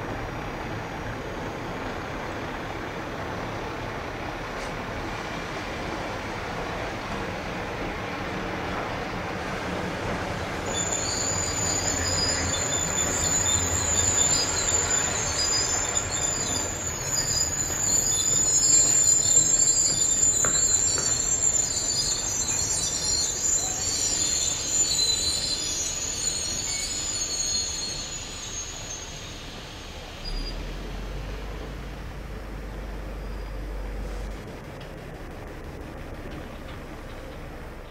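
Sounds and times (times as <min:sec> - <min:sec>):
train wheels squealing on rails: 0:00.3 - 0:31.8, 0:32.4 - 0:34.9.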